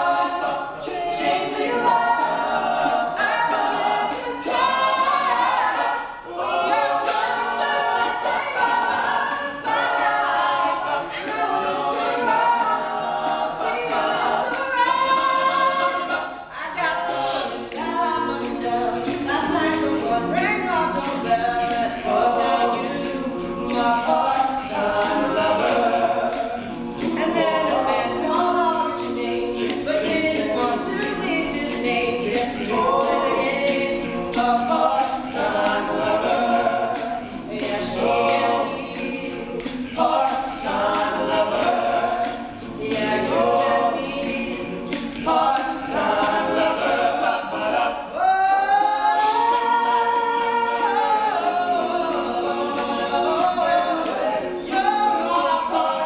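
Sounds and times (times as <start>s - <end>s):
male a cappella group singing: 0.0s - 56.0s
vocal percussion beat: 0.0s - 56.0s.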